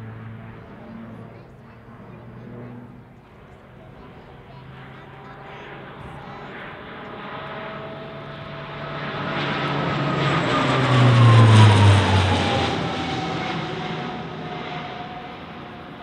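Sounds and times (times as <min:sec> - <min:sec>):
turboprop aircraft flying overhead: 0:00.0 - 0:16.0.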